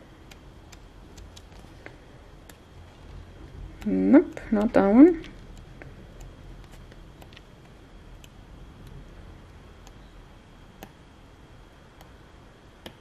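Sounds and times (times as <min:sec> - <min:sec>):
low room hiss: 0:00.0 - 0:13.0.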